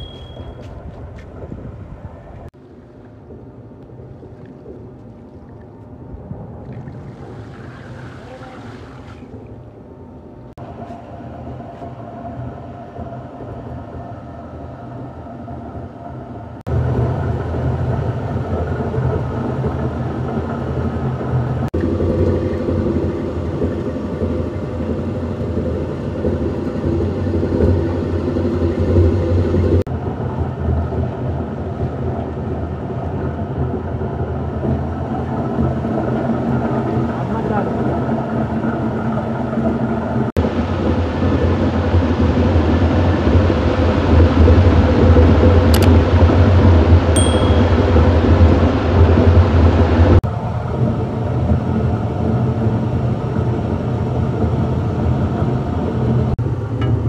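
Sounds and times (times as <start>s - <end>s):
recycling machine motor hum: 2.0s - 57.0s.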